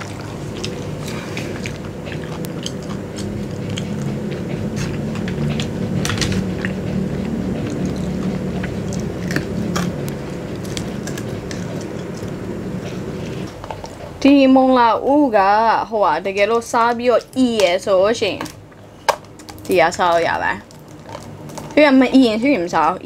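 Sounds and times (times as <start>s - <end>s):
crunchy chewing: 0.0s - 14.3s, 16.4s - 23.0s
low steady hum: 0.0s - 23.0s.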